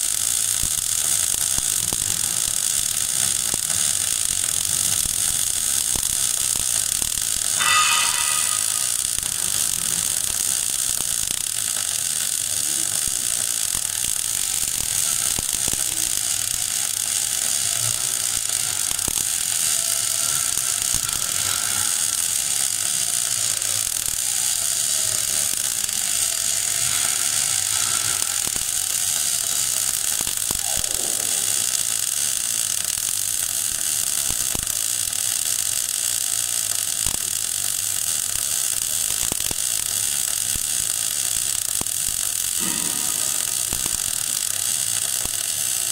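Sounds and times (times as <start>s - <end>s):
welding arc crackling hiss: 0.0s - 45.9s.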